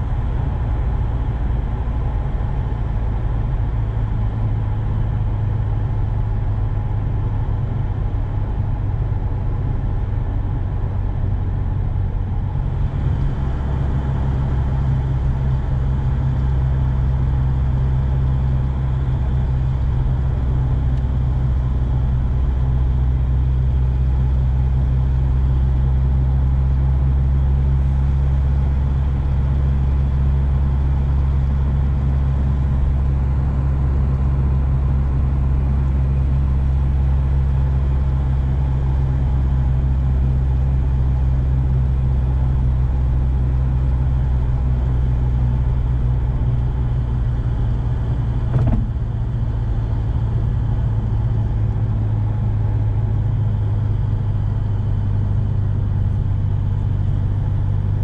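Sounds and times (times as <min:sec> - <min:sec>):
car engine cruising: 0:00.0 - 0:58.0
road noise: 0:00.0 - 0:58.0.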